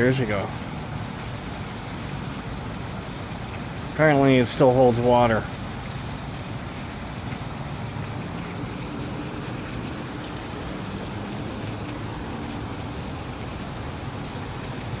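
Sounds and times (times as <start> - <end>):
rain and running water: 0.0 - 15.0.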